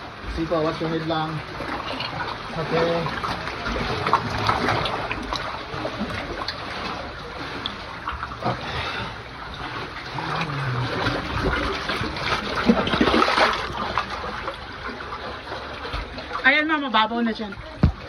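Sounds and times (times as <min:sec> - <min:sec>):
water splashing around swimmers: 0:00.0 - 0:18.0.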